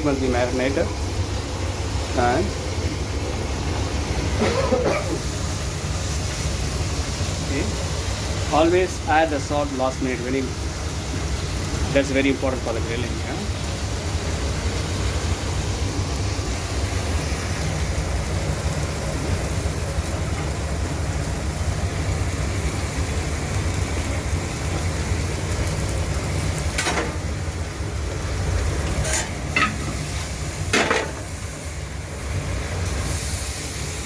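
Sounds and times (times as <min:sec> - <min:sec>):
steak sizzling on a grill: 0:00.1 - 0:34.0.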